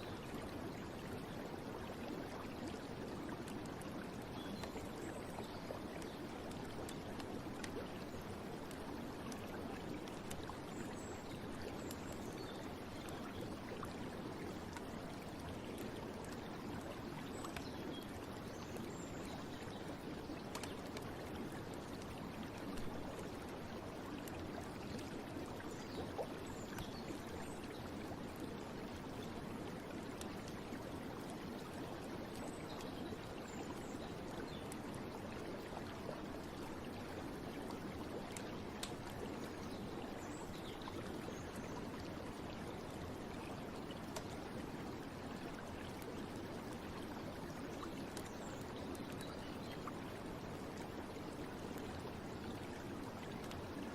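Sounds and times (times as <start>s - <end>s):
stream water running: 0.0s - 53.9s.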